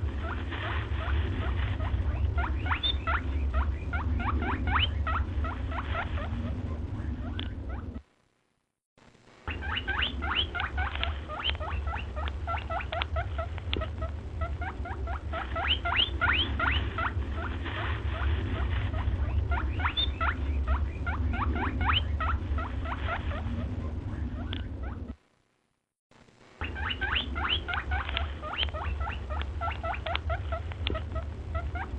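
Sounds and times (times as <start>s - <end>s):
steady low rumble: 0.0s - 31.9s
small animals squeaking: 0.2s - 8.0s, 9.5s - 25.2s, 26.6s - 31.9s.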